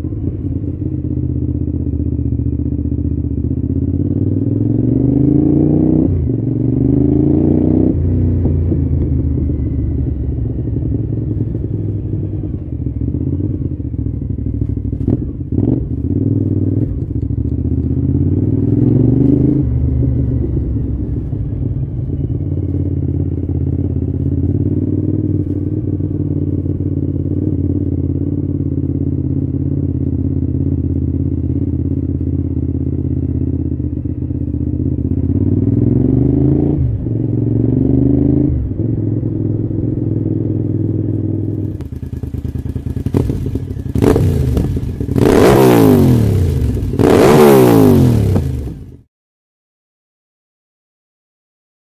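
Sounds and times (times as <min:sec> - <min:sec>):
motorcycle engine accelerating: 0:00.0 - 0:49.1.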